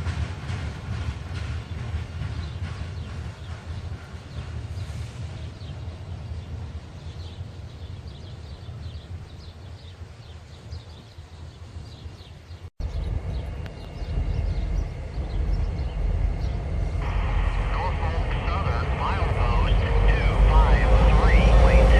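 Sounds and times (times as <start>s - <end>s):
freight train rumbling: 0.0s - 21.9s.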